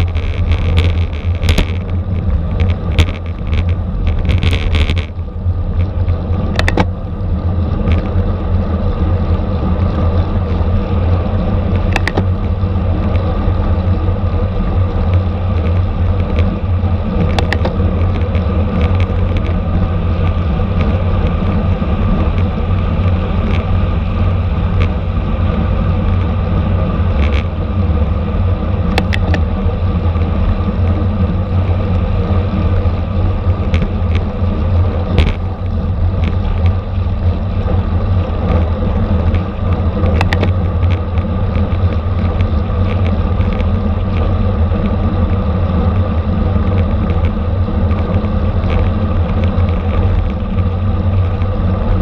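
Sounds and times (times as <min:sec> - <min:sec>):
road rumble: 0:00.0 - 0:52.0
wind noise: 0:00.0 - 0:52.0.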